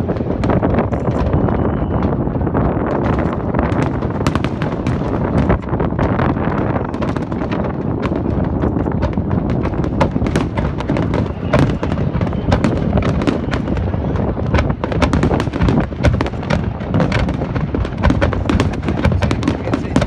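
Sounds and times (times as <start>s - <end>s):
fireworks booms and crackles: 0.0s - 20.0s.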